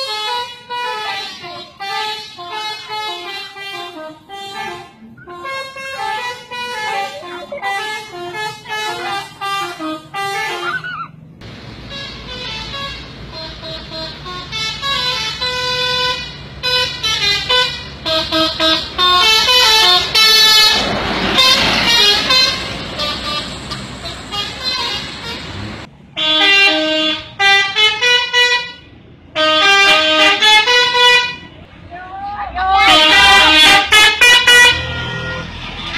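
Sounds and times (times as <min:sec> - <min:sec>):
multi-trumpet bus horn melody: 0:00.0 - 0:31.6, 0:32.6 - 0:35.9.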